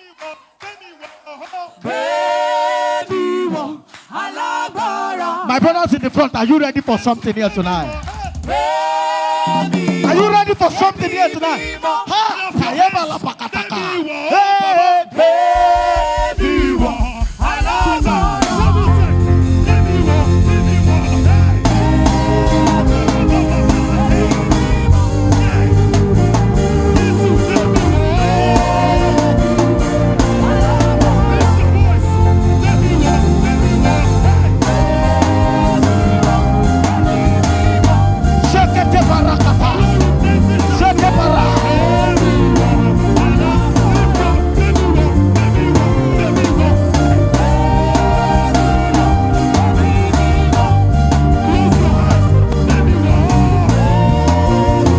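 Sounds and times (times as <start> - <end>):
worship band music: 0.0 - 54.9.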